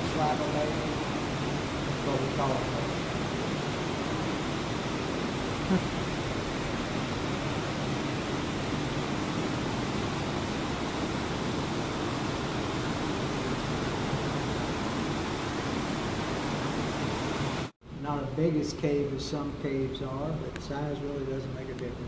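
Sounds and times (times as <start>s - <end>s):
steady rushing hiss: 0.0s - 22.0s.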